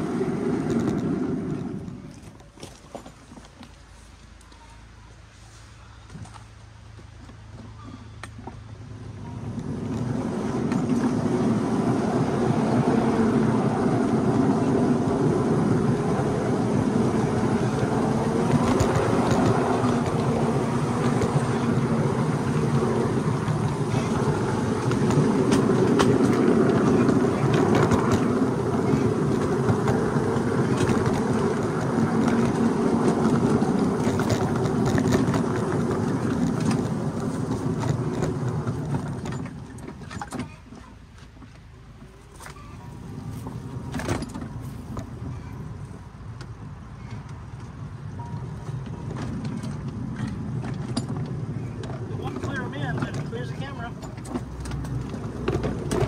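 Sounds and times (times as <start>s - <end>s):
train wheels rumbling on rail: 0.0s - 4.4s, 6.1s - 56.0s.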